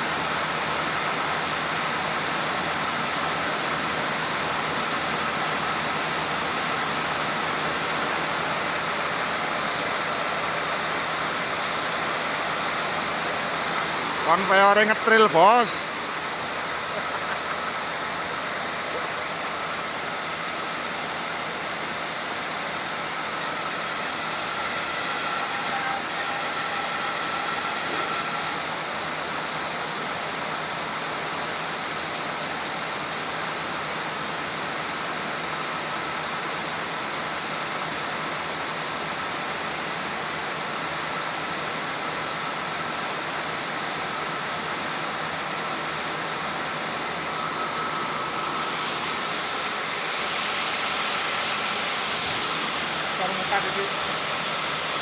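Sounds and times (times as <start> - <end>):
cigarette machine running: 0.0 - 35.1, 42.3 - 55.0.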